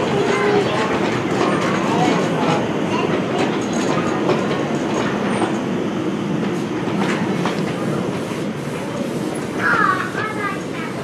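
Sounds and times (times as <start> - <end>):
train carriages clattering over rail joints: 0.0 - 5.7, 6.4 - 11.0.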